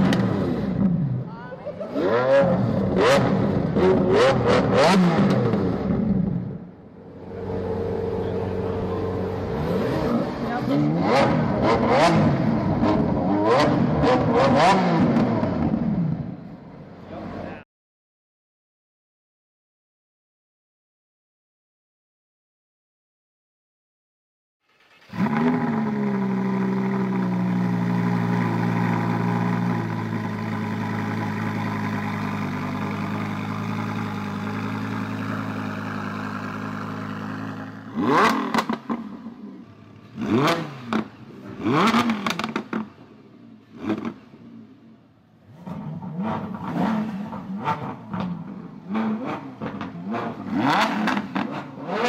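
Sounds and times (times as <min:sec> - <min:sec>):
car engine revving: 0:00.0 - 0:01.2, 0:01.8 - 0:17.6, 0:24.8 - 0:52.0
car engine starting and idling: 0:00.0 - 0:17.6, 0:24.7 - 0:51.7.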